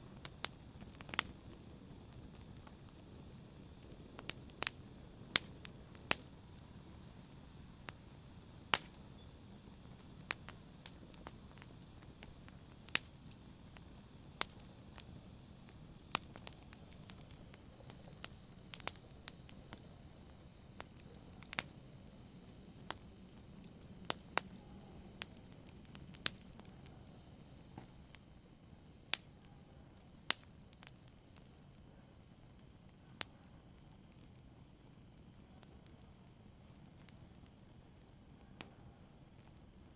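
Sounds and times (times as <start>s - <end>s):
faint steady hiss: 0.0s - 39.9s
logs crackling and popping in fire: 0.0s - 39.9s.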